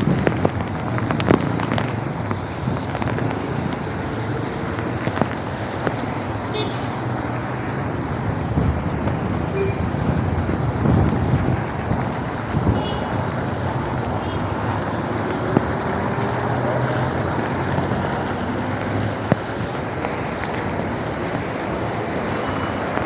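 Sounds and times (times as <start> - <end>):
car tyres on wet asphalt: 0.0 - 23.0
passing car engines: 0.0 - 23.0.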